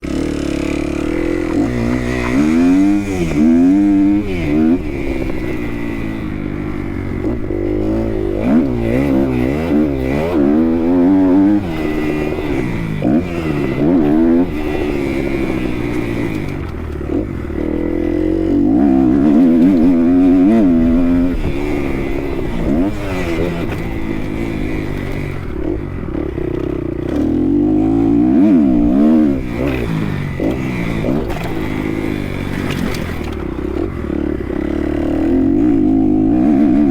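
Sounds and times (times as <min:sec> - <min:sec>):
motocross bike engine revving: 0:00.0 - 0:36.9.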